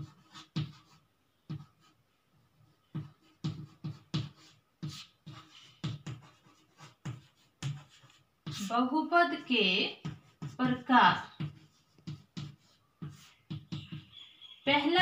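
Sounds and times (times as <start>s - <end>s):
chalk scratching on chalkboard: 0.0s - 2.0s, 2.8s - 15.0s.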